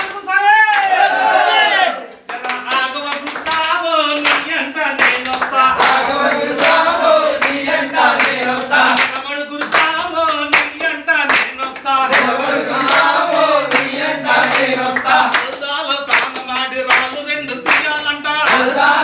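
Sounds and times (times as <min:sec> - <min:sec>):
hands clapping in rhythm: 0:00.0 - 0:19.0
men singing a devotional song: 0:02.3 - 0:19.0.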